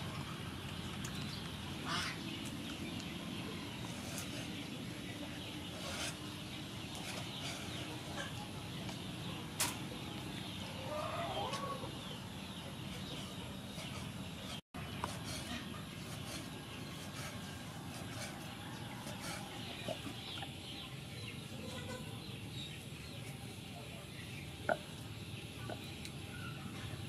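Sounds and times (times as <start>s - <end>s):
hen clucking: 1.8s - 26.9s.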